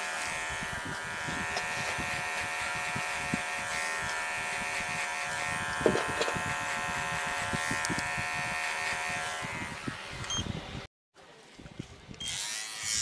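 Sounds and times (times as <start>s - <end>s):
electric hair clipper buzzing: 0.0s - 10.3s, 12.2s - 13.0s.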